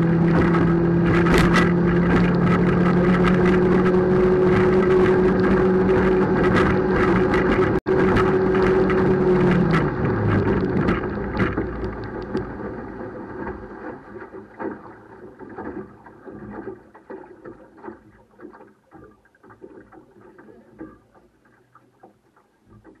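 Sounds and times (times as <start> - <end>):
outboard motor running: 0.0 - 23.0
water splashing against hull: 0.0 - 23.0.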